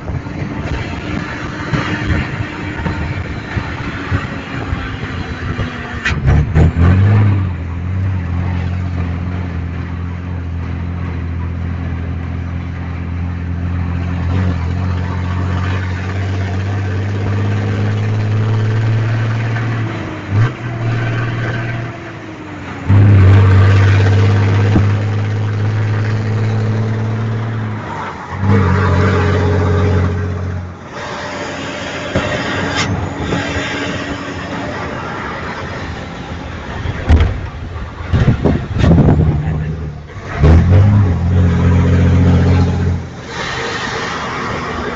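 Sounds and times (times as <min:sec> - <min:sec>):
engine throttle blips: 0:00.0 - 0:44.9
truck diesel engine rumbling: 0:00.0 - 0:44.9.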